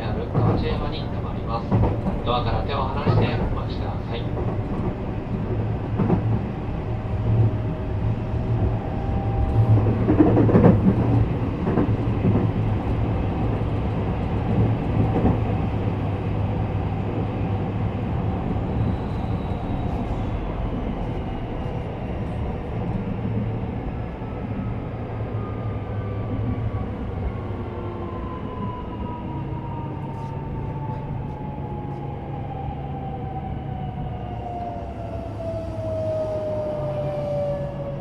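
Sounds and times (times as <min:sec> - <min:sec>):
train interior low hum: 0:00.0 - 0:38.0.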